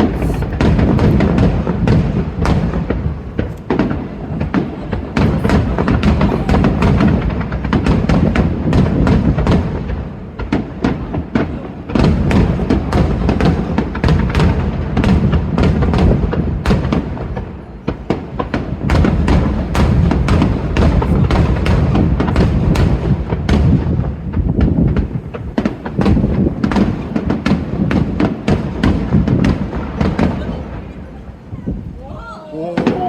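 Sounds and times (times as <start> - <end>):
fireworks booming and cracking: 0.0 - 33.0.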